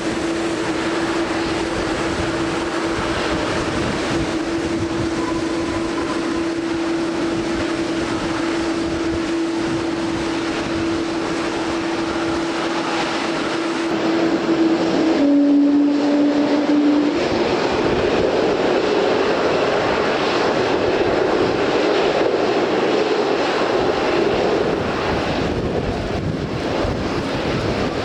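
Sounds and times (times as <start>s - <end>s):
jet engines whining: 0.0s - 28.0s
wind and rain rushing: 0.0s - 28.0s.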